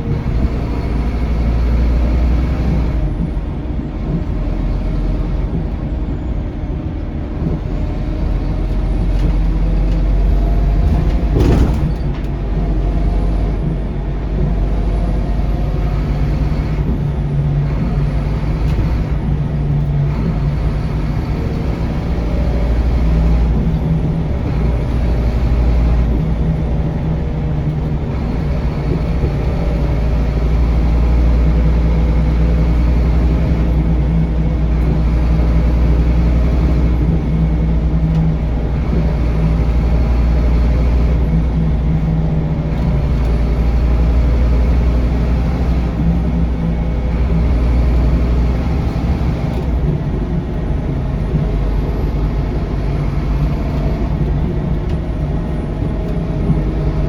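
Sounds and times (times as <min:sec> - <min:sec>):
bus diesel engine running: 0:00.0 - 0:57.0
road and tyre noise: 0:00.0 - 0:57.0.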